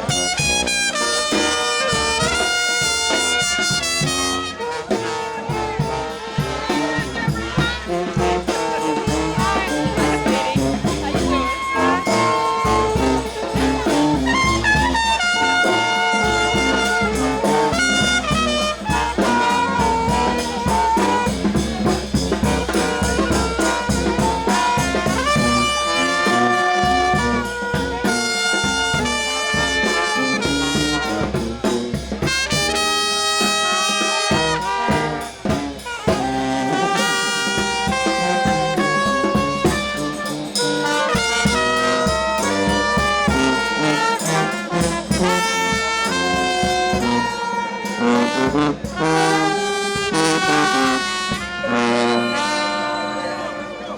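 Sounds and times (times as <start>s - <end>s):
brass band playing: 0.0s - 53.9s.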